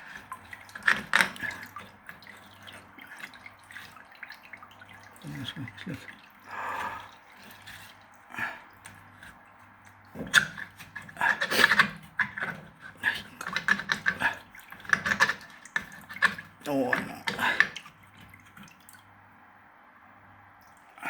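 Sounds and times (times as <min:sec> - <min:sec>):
water dripping and splashing: 0:00.0 - 0:19.2, 0:20.6 - 0:21.0.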